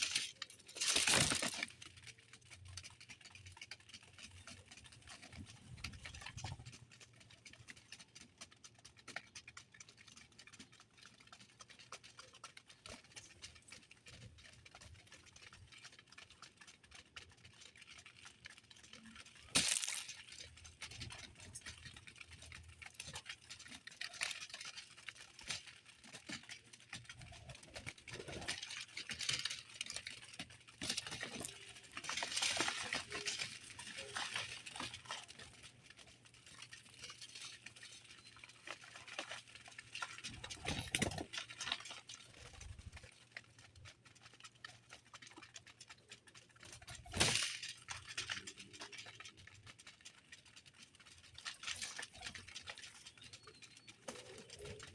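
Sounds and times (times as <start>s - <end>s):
birds pecking and fluttering: 0.0s - 54.9s.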